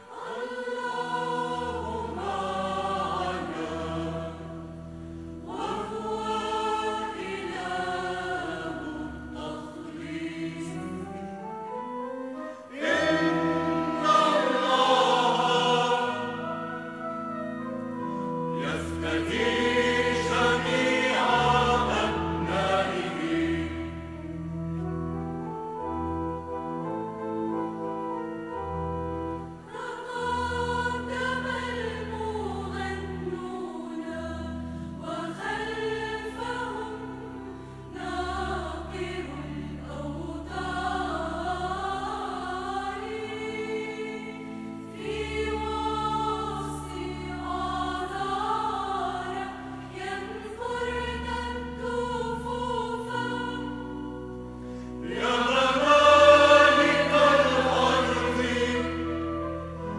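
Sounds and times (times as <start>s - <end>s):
mixed choir singing a hymn: 0.0s - 11.6s, 12.4s - 17.2s, 18.1s - 24.9s, 29.3s - 59.9s.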